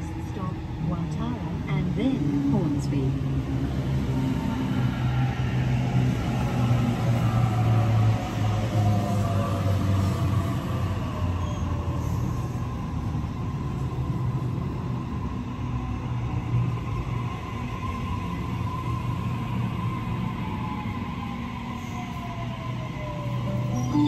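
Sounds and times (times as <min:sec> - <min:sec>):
electric train pulling in: 0:00.0 - 0:24.0
falling whine of slowing train: 0:00.0 - 0:24.0.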